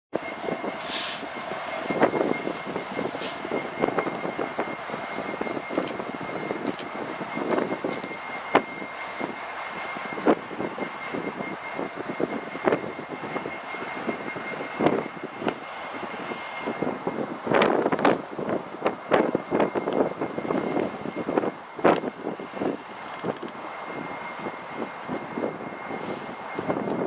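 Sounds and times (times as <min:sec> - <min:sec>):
diesel locomotive engine: 0:00.1 - 0:27.0
high whine: 0:00.1 - 0:27.0
wheels clanking: 0:00.2 - 0:27.0.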